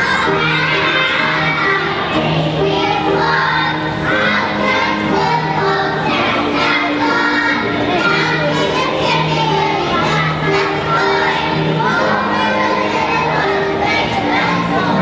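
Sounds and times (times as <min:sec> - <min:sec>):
children singing together: 0:00.0 - 0:15.0
instrumental music: 0:00.0 - 0:15.0.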